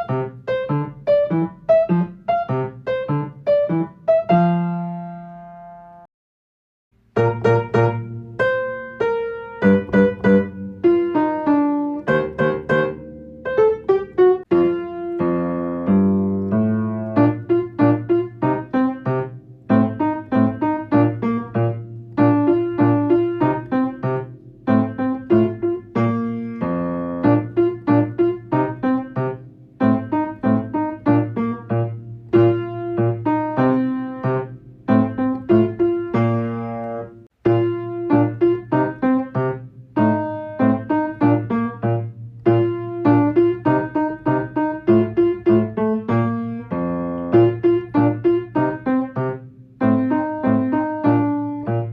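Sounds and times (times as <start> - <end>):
solo piano playing: 0.0 - 6.1, 7.0 - 51.9.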